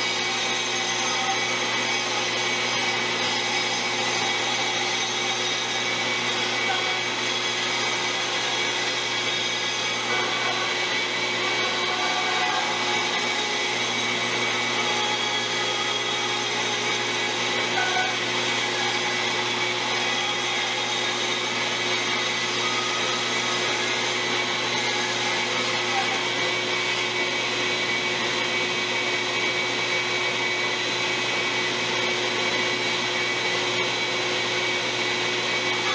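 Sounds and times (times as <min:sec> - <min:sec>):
bandsaw motor hum: 0:00.0 - 0:35.9.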